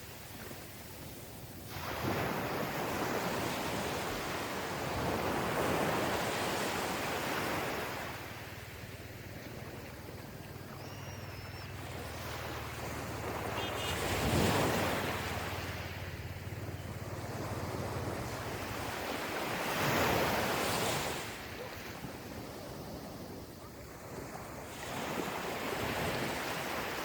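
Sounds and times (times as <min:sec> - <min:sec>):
small waves washing onto beach: 0:00.0 - 0:27.0.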